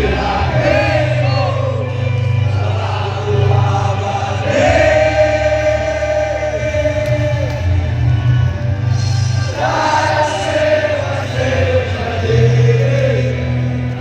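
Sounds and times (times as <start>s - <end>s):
crowd singing together: 0.0s - 14.0s.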